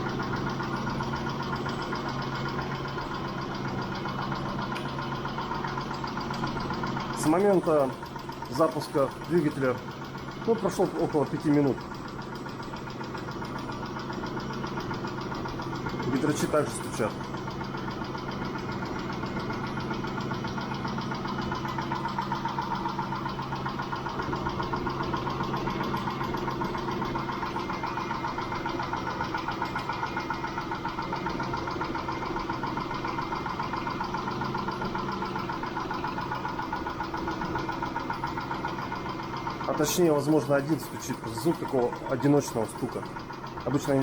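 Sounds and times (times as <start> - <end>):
car engine idling: 0.0 - 44.0
rapid valve lifter ticking: 0.0 - 44.0.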